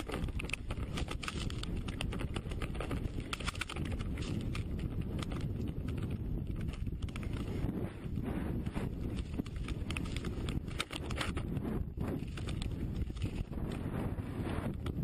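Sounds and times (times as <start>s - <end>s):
snowmobile engine rumble: 0.0s - 15.0s
wind noise on microphone: 0.0s - 15.0s.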